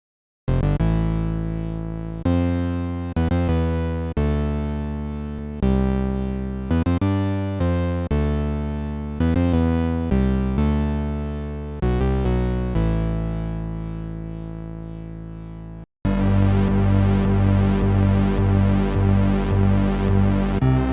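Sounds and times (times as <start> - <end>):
synthesizer notes and chords: 0.5 - 20.9.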